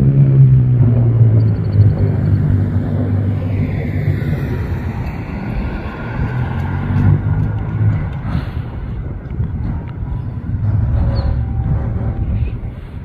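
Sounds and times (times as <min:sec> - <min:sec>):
diesel locomotives rumbling: 0:00.0 - 0:13.0.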